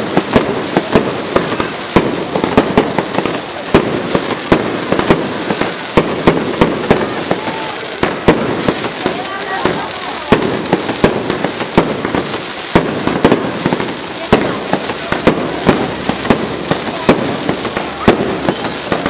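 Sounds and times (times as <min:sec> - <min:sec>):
crackling hiss of sparks: 0:00.0 - 0:19.0
fireworks bangs: 0:00.0 - 0:19.0.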